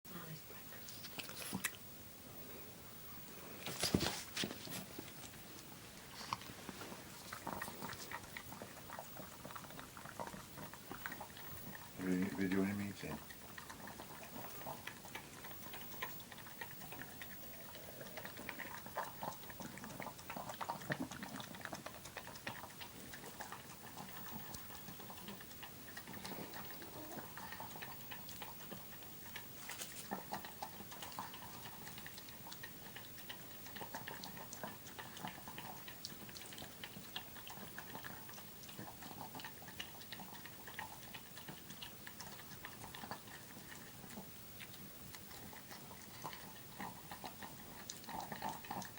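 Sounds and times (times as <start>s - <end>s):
dog chewing and licking clicks: 0.8s - 1.8s, 3.6s - 48.9s.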